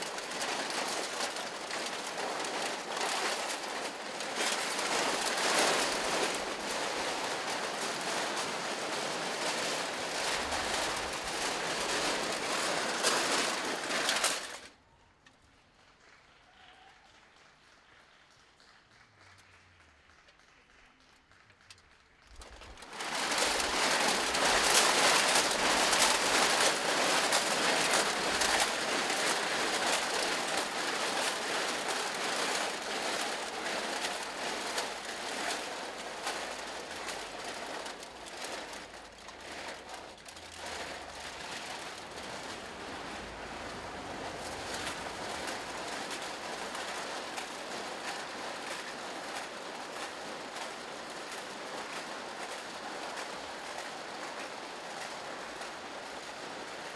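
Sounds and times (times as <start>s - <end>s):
crackling rattle of costume ornaments: 0.0s - 56.9s.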